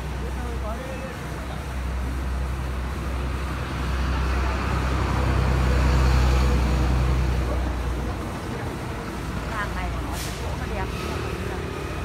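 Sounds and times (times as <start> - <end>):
forklift engine running under load: 0.0 - 12.0.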